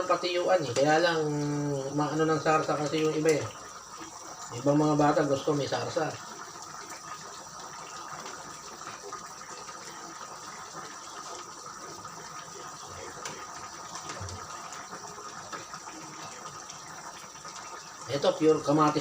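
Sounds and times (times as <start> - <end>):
sauce bubbling in a pan: 0.0 - 19.0.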